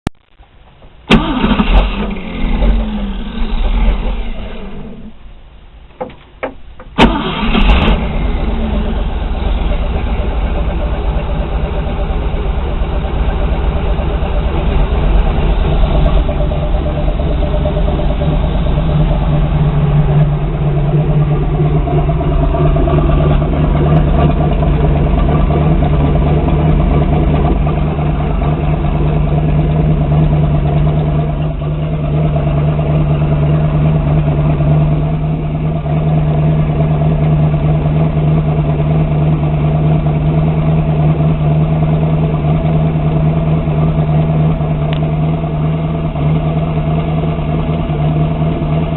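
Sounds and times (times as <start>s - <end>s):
boat engine idling: 0.8s - 48.9s.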